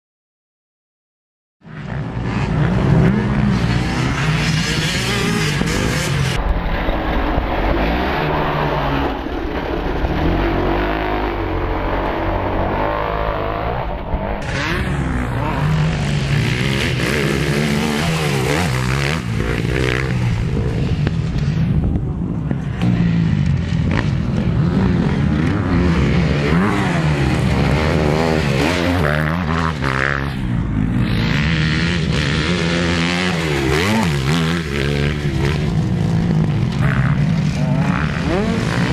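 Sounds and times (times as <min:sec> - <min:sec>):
motorbike engine revving: 0:01.7 - 0:21.8, 0:22.6 - 0:38.9.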